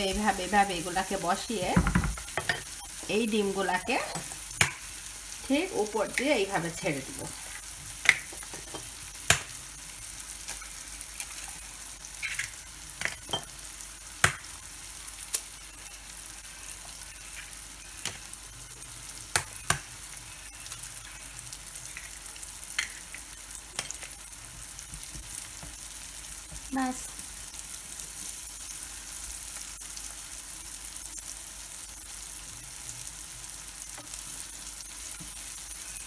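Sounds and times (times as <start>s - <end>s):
eggs sizzling in oil: 0.0s - 36.0s.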